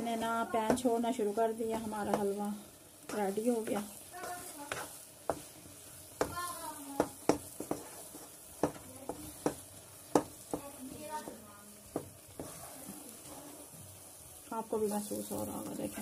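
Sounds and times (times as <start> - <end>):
spatula knocking and scraping pan: 0.0 - 13.0
faint sizzle: 0.0 - 16.0.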